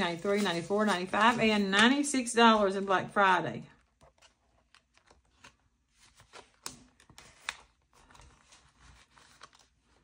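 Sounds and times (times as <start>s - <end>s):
paper rustling: 0.0s - 2.7s, 4.0s - 10.0s.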